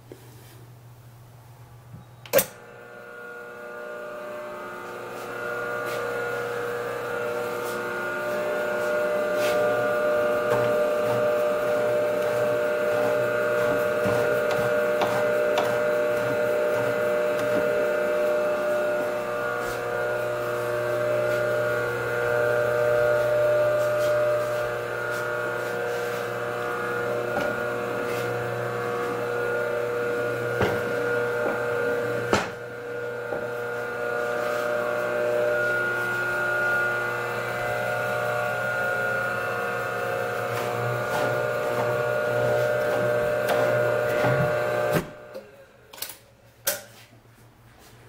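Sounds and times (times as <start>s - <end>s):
meat slicer humming: 2.3s - 45.7s.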